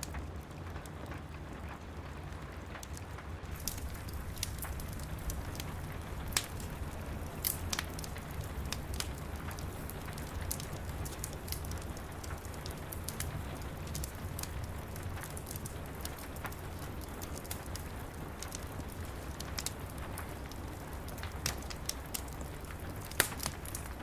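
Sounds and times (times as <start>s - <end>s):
rain pattering: 0.0s - 24.0s
wood fire crackling: 0.0s - 24.0s.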